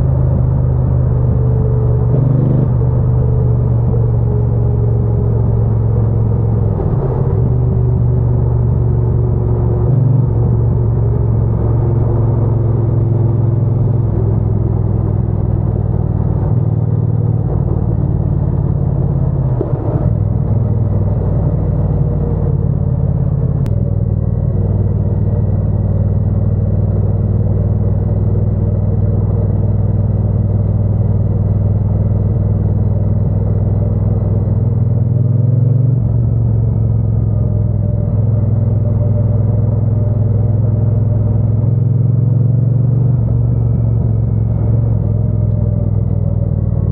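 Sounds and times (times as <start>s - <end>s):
motorcycle engine rumbling: 0.0s - 46.9s.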